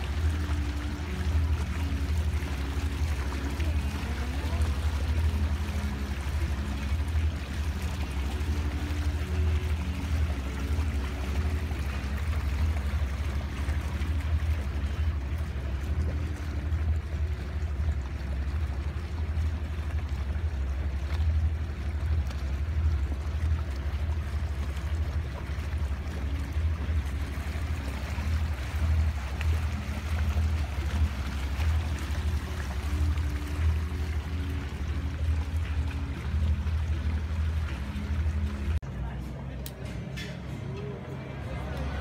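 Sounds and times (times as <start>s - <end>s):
low rumble: 0.0s - 42.0s
water rushing along hulls: 0.0s - 42.0s.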